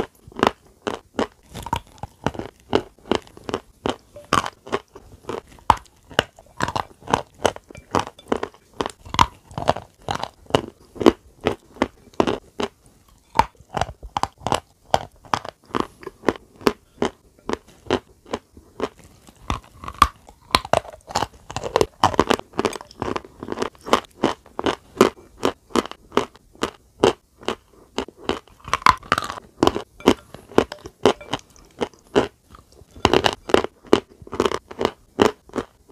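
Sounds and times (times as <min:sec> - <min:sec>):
crunchy food chewing: 0:00.0 - 0:35.9.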